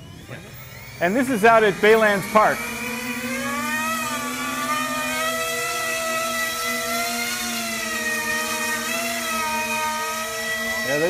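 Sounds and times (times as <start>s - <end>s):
model aircraft propellers whirring: 0.0s - 11.0s.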